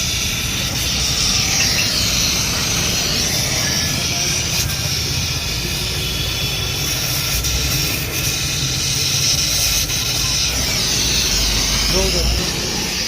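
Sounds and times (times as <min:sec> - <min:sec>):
machine hiss: 0:00.0 - 0:13.0.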